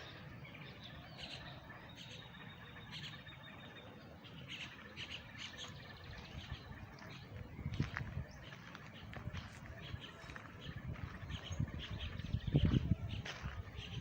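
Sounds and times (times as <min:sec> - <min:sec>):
birds chirping: 0:00.0 - 0:14.0
low outdoor hum: 0:00.0 - 0:14.0.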